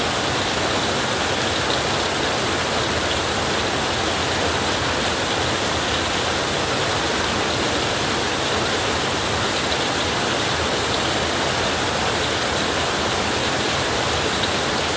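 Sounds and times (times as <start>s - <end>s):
heavy rain on a tin roof: 0.0s - 14.9s.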